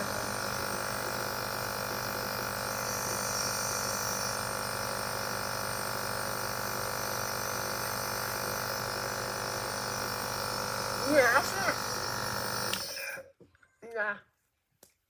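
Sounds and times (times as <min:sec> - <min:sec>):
small electric motor buzzing: 0:00.0 - 0:13.2.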